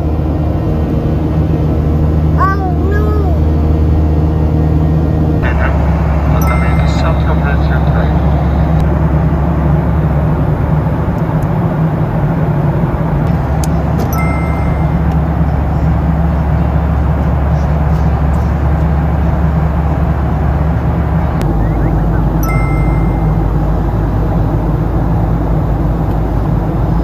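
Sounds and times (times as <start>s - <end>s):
airliner cabin jet engine drone: 0.0s - 27.0s.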